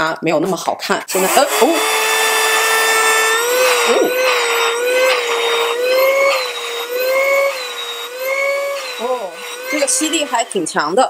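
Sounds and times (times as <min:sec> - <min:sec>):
handheld vacuum cleaner motor whine: 0:01.1 - 0:11.0.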